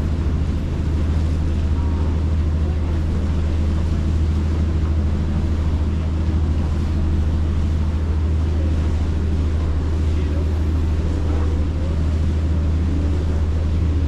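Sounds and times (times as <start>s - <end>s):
boat engines humming: 0.0s - 14.0s
rushing water: 0.0s - 14.0s.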